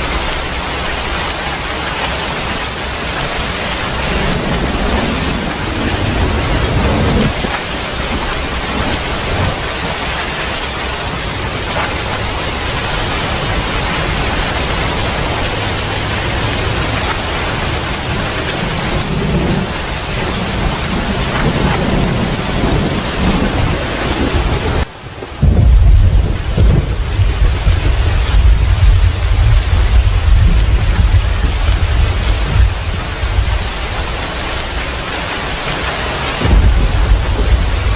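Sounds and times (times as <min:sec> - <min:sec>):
rolling thunder rumbling: 0:00.0 - 0:35.1, 0:36.1 - 0:37.9
heavy rain falling: 0:00.0 - 0:37.9.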